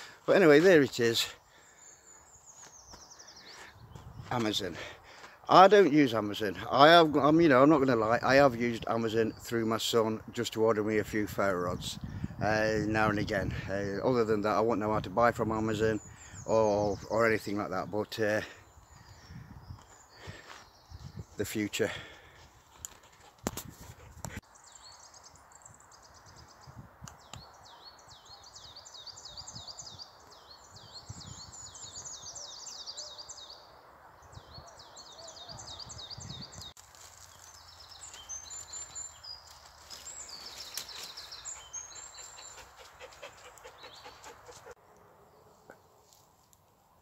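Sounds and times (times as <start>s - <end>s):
songbirds singing: 0.0s - 47.0s.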